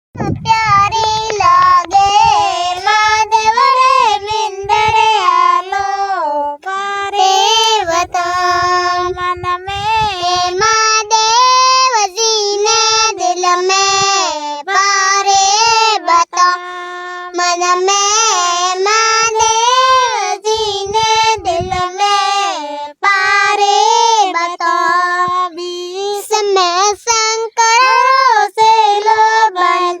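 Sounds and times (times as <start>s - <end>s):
high-pitched voice singing: 0.2s - 30.0s.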